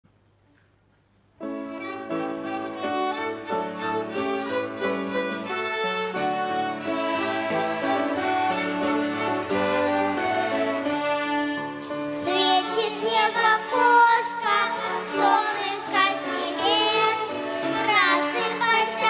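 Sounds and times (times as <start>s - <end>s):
violin ensemble playing: 1.4s - 19.0s.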